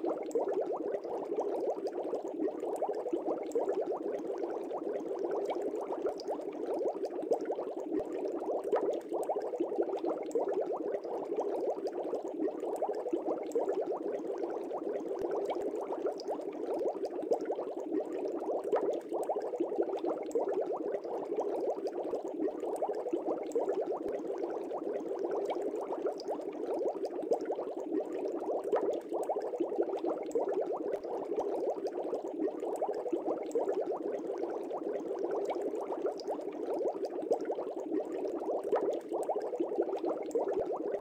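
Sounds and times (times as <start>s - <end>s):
aquarium water bubbling: 0.0s - 41.0s.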